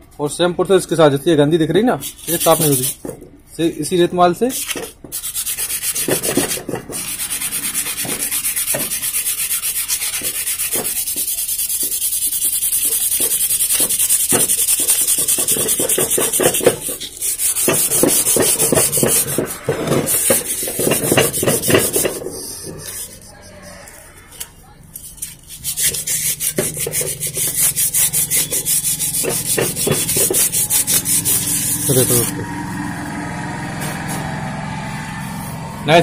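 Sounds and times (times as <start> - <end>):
sandpaper rubbing on metal: 2.0 - 32.4.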